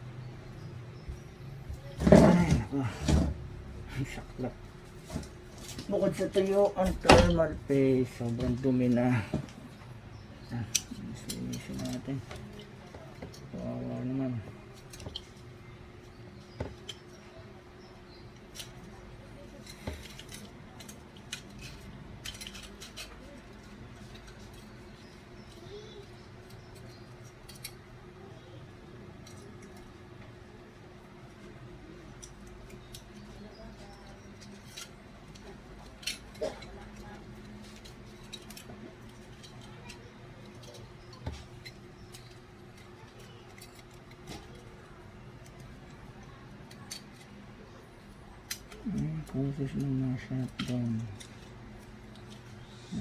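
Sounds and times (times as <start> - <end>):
steady low hum: 0.0 - 53.0
small tools clicking: 3.9 - 28.0, 28.8 - 53.0.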